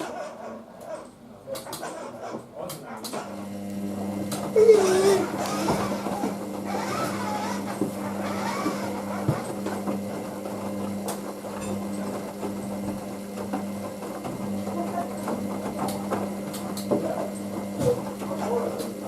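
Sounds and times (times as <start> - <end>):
washing machine motor humming: 3.2 - 19.0.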